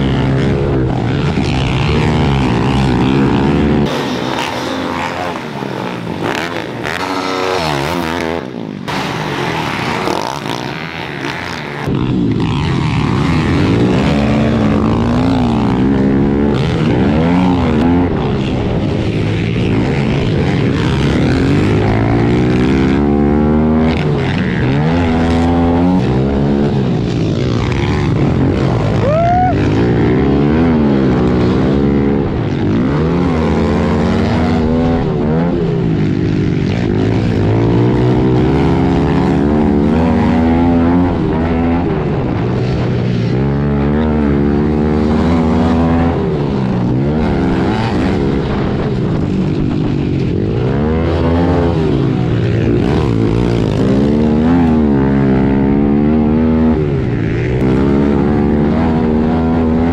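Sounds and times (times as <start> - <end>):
other pit bikes running: 0.0 - 59.9
pit bike engine revving: 0.0 - 59.9.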